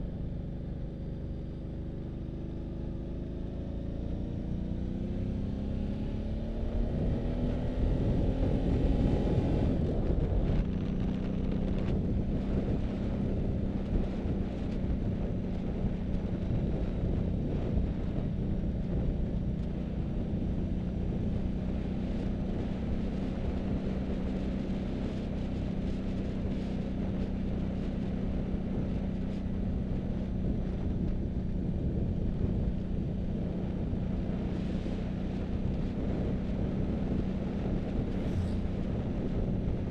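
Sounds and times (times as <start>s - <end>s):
road rumble: 0.0s - 39.9s
vehicle engine accelerating: 1.0s - 39.9s
wind noise: 4.3s - 39.9s.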